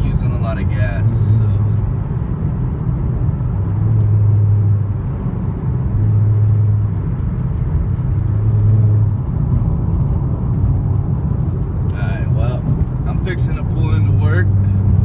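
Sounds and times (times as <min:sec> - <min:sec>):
car engine and road rumble: 0:00.0 - 0:15.0
low hum: 0:00.0 - 0:15.0.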